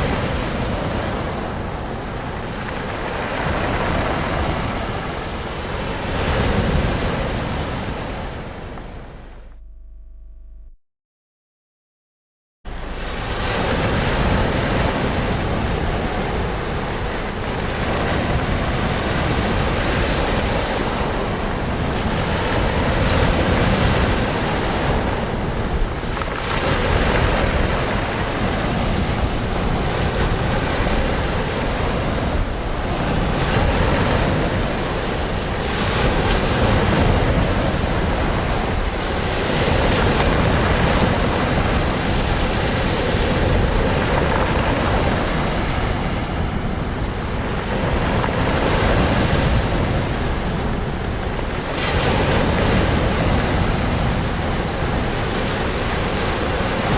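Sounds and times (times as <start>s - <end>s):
ocean waves washing on shore: 0.0s - 9.3s, 12.7s - 56.9s.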